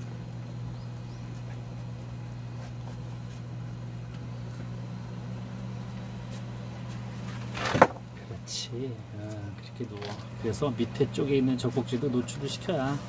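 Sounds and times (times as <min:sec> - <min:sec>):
electric fan motor humming: 0:00.0 - 0:13.0.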